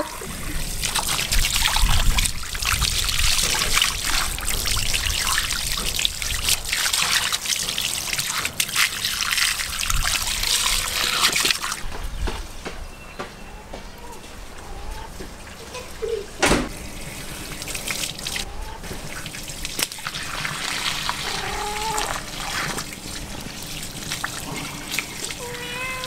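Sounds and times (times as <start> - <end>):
water splashing from a hose: 0.0 - 11.9, 15.2 - 26.0.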